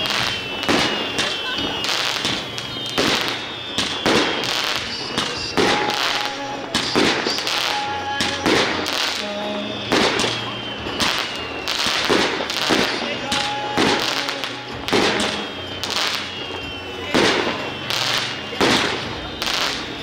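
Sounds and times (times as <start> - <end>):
fireworks exploding: 0.0 - 20.0
music: 0.0 - 20.0.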